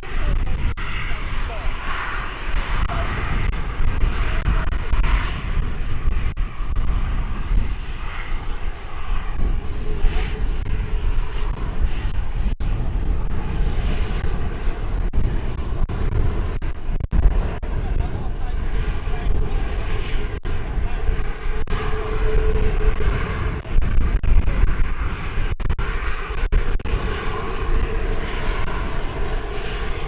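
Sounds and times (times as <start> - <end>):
jet engines running: 0.0 - 30.0
wind buffeting microphone: 0.0 - 30.0.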